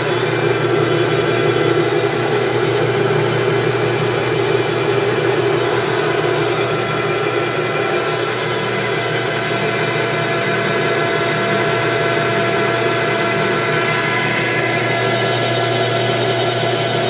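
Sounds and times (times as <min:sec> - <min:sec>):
lathe running with whining gears: 0:00.0 - 0:17.0.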